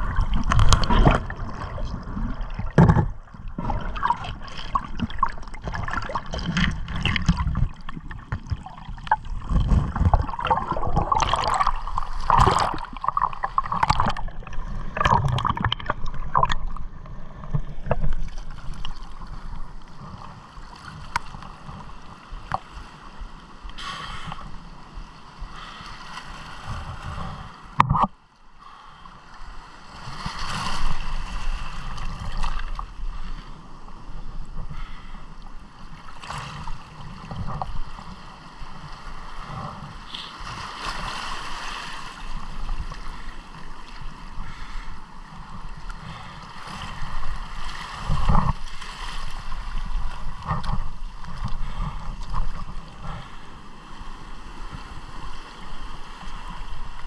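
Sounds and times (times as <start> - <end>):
water splashing and gurgling: 0.0 - 28.3, 29.3 - 57.0.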